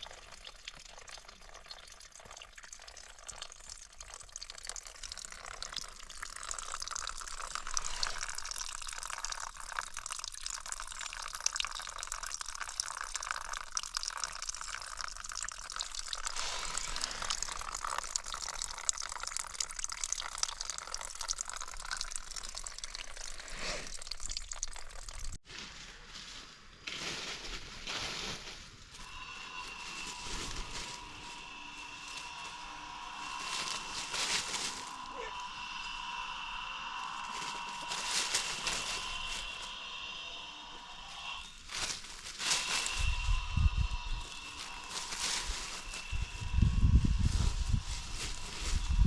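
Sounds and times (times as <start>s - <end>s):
water running and trickling: 0.0s - 25.4s, 29.0s - 49.0s.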